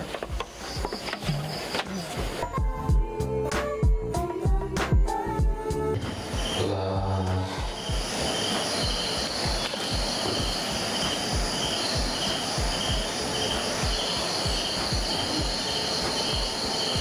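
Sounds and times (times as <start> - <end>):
crickets chirping: 0.0 - 3.2, 6.0 - 17.0
high insect drone: 0.0 - 3.2, 5.9 - 17.0.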